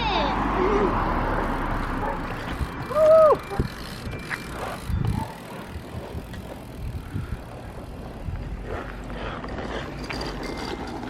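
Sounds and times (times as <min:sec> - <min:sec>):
bicycle tyres rolling on pavement: 0:00.4 - 0:11.0.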